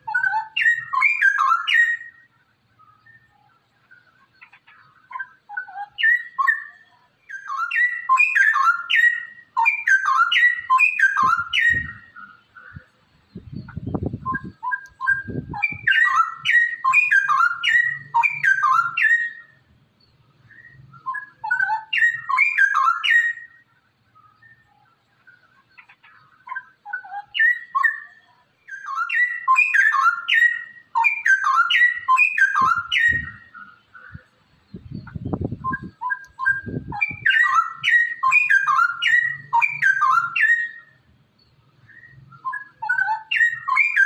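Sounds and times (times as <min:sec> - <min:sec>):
bird singing bubbling phrases: 0:00.0 - 0:44.0.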